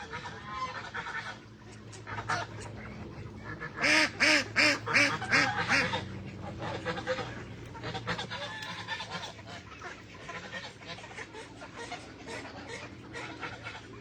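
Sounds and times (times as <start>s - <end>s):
ducks and geese calling: 0.0s - 14.0s
loud goose honks: 2.1s - 14.0s.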